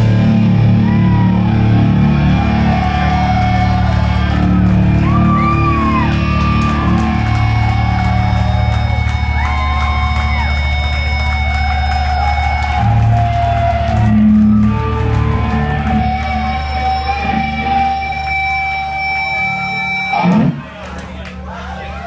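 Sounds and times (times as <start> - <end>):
drums: 0.0 - 20.7
distorted electric guitar: 0.0 - 20.8.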